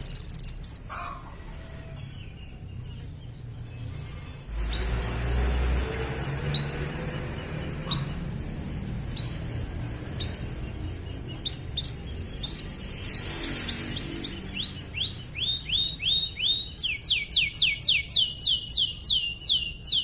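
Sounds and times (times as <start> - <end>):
canary chirping: 0.0 - 20.0.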